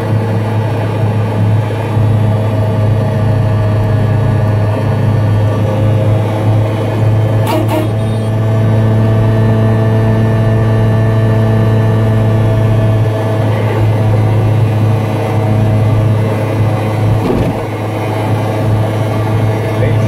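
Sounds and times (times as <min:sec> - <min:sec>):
small engine droning: 0:00.0 - 0:20.0.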